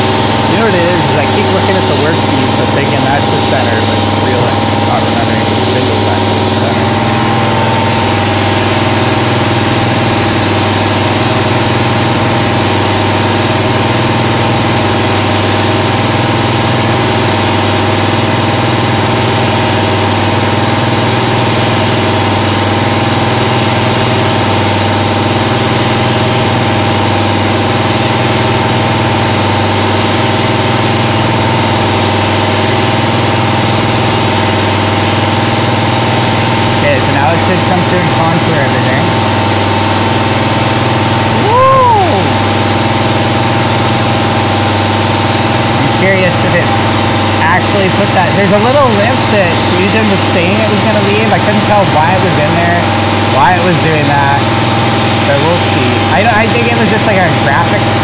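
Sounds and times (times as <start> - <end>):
milling machine humming: 0.0 - 58.0.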